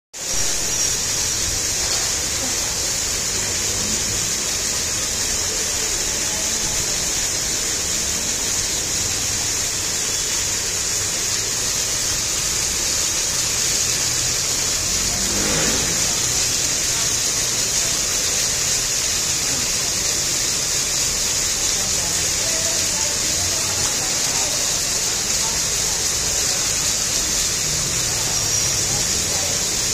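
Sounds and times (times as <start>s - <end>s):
fountain water splashing: 0.2s - 29.9s.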